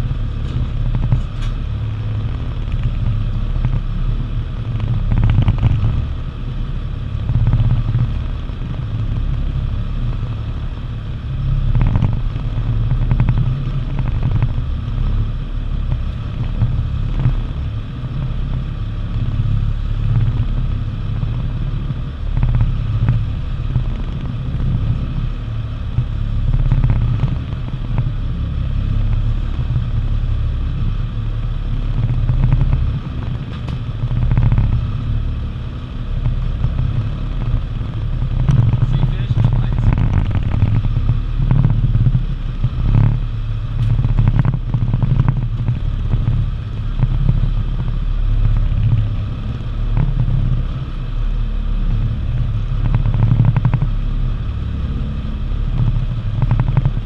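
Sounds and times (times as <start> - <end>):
boat engine rumble: 0.0 - 57.0.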